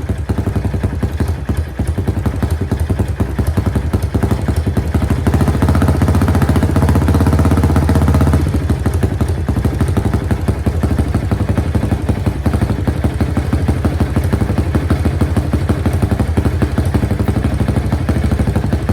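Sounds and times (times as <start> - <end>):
mini motorcycle engine idling: 0.0 - 18.9.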